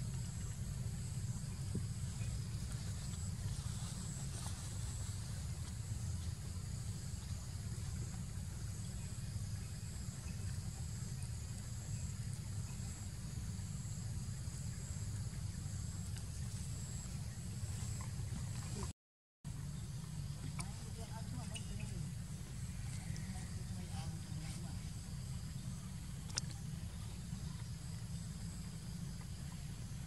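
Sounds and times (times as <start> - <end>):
low outdoor rumble: 0.0 - 18.9, 19.5 - 30.0.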